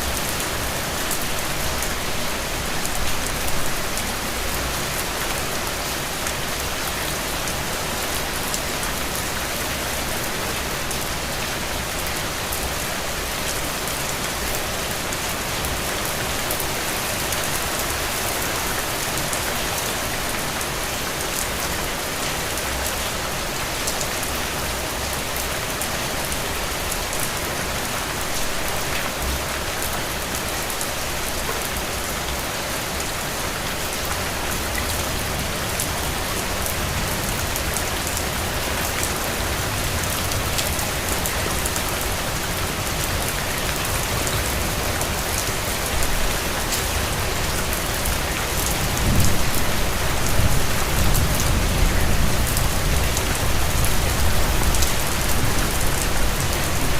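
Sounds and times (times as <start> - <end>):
rain pattering on surfaces: 0.0 - 56.9.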